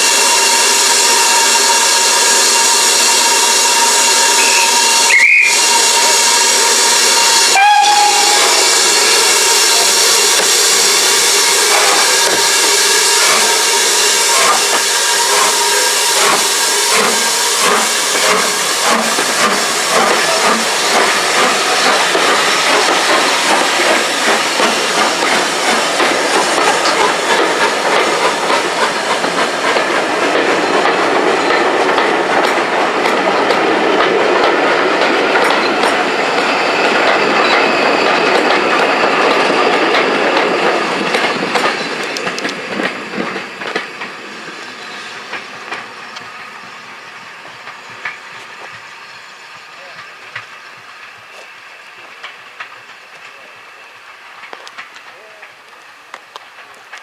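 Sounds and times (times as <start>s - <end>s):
steam hiss: 0.0s - 57.0s
train wheels clicking over rail joints: 6.0s - 57.0s.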